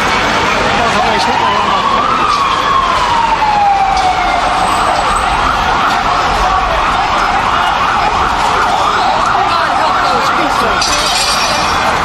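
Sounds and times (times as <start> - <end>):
steady traffic noise: 0.0 - 12.0
wail siren gliding down: 0.1 - 12.0
yelp siren: 0.6 - 12.0.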